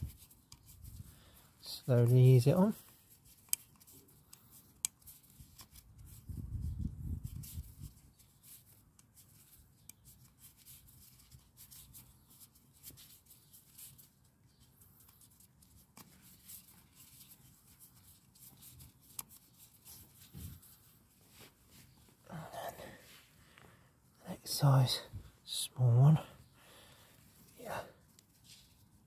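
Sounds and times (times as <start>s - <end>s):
gloved hands rubbing: 0.0s - 23.5s.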